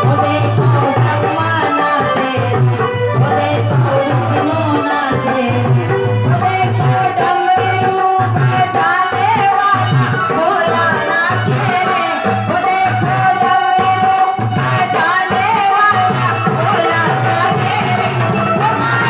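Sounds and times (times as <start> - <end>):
jingling hand percussion: 0.0 - 19.0
person singing: 0.0 - 19.0
steady drum beat: 0.0 - 19.0.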